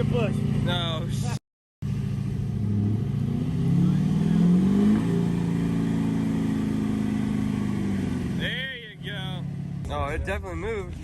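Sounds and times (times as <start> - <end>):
vehicle engine revving: 0.0 - 10.7.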